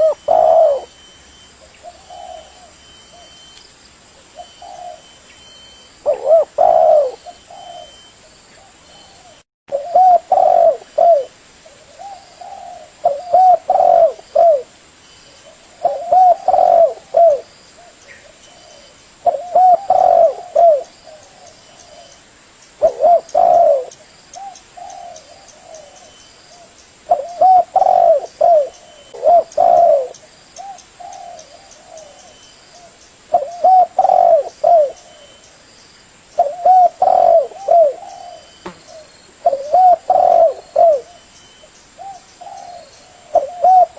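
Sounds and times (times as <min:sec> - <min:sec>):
dove cooing: 0:00.0 - 0:03.5, 0:04.4 - 0:05.2, 0:06.0 - 0:14.7, 0:15.4 - 0:22.2, 0:22.8 - 0:35.4, 0:36.4 - 0:41.3, 0:42.0 - 0:43.9.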